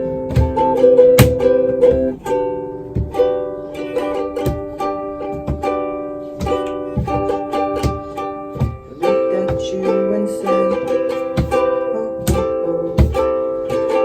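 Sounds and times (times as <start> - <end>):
ukulele strumming: 0.0 - 14.0.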